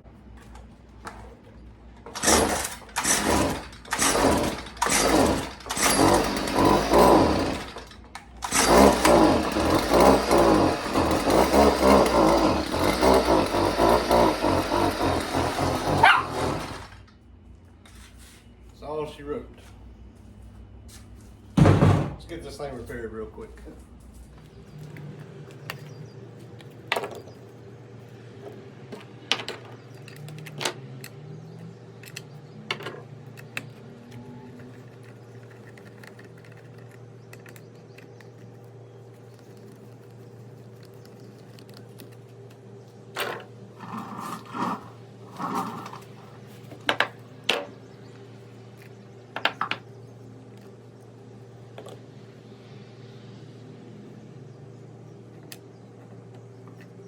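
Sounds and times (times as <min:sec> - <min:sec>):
steady low hum: 0:07.0 - 0:57.0.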